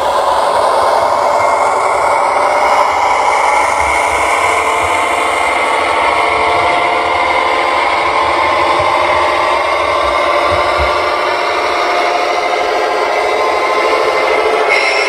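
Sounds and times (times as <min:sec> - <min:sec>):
model train motor and wheels: 0:00.0 - 0:15.0.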